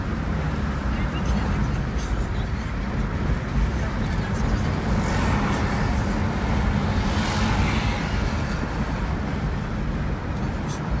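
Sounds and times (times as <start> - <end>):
car cabin road noise: 0.0 - 11.0.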